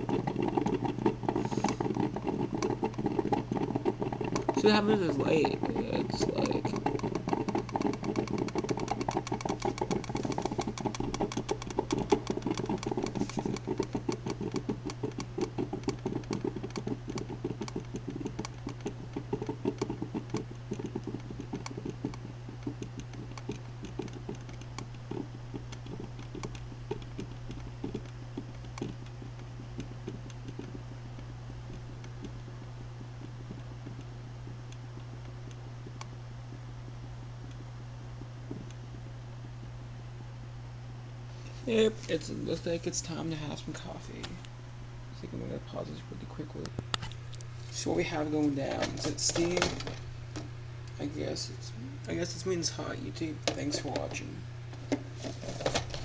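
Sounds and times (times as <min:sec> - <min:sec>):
coffee maker sputtering and gurgling: 0:00.0 - 0:56.0
steady low hum: 0:00.0 - 0:56.0.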